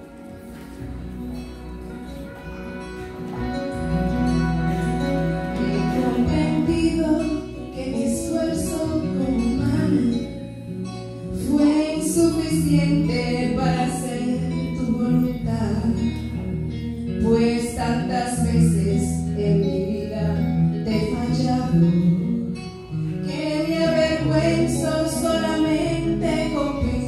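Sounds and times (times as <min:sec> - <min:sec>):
instrumental accompaniment: 0:00.0 - 0:27.0
woman singing into a microphone: 0:03.5 - 0:27.0.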